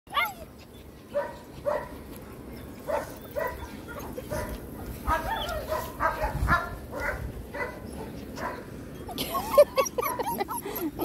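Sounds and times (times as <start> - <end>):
puppies yipping: 0.1 - 11.0.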